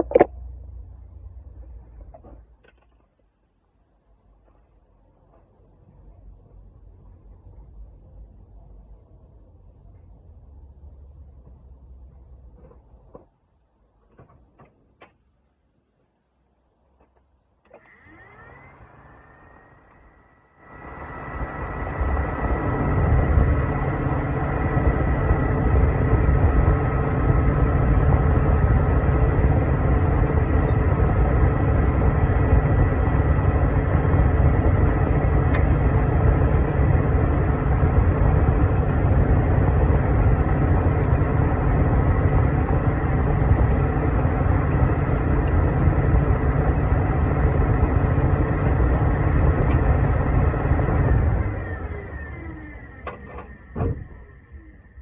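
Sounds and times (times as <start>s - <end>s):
car air-conditioning fan whine: 0.0s - 13.1s, 17.5s - 55.0s.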